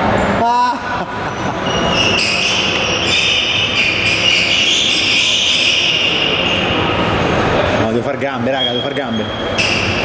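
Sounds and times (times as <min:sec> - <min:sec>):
steady hiss of hall: 0:00.0 - 0:10.0.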